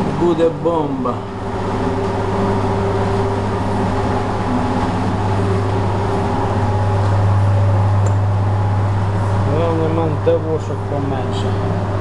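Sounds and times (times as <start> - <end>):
air noise: 0.0 - 12.0
machine hum: 0.0 - 12.0.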